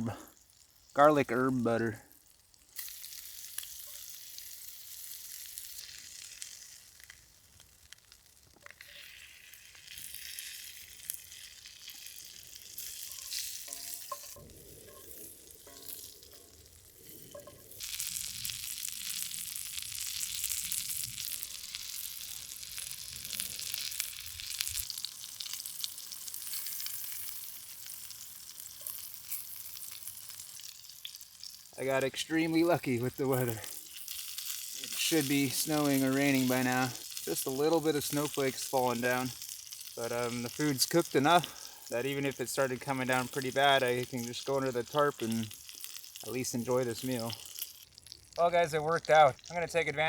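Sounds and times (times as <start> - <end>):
food sizzling in a skillet: 0.0 - 1.0, 1.6 - 49.8.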